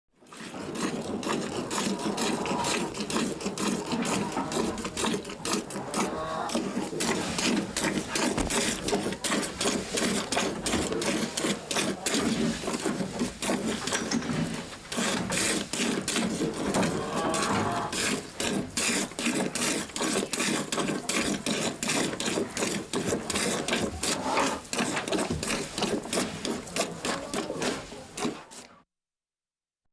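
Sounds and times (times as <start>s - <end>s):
rhythmic milking swishes: 0.2s - 28.7s.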